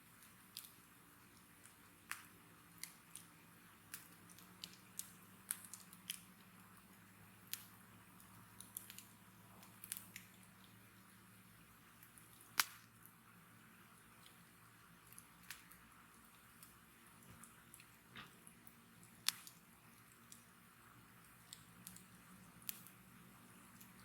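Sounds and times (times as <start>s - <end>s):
bonfire crackling: 0.0s - 24.0s.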